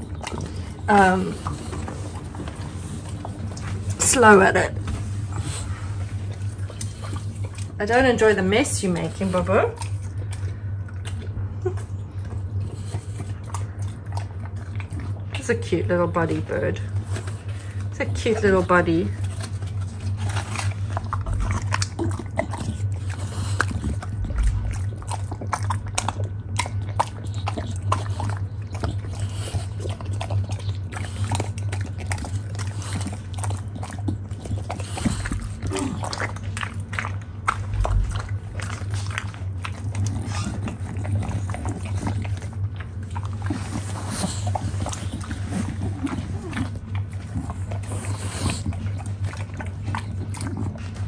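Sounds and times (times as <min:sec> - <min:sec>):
dog crunching apple: 0:00.0 - 0:51.0.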